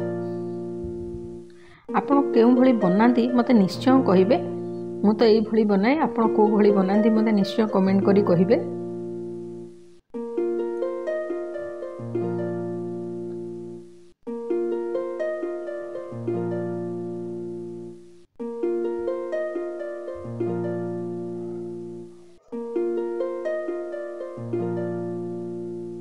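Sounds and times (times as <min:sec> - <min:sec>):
plucked-string tune: 0:00.0 - 0:26.0.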